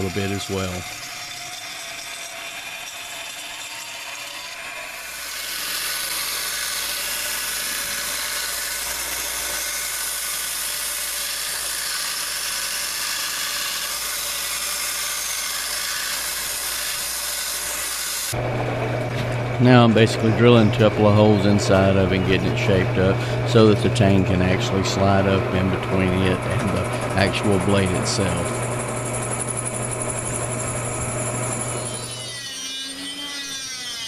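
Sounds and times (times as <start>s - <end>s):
belt sander grinding metal: 0.0s - 34.0s
power saw cutting metal: 0.0s - 34.0s.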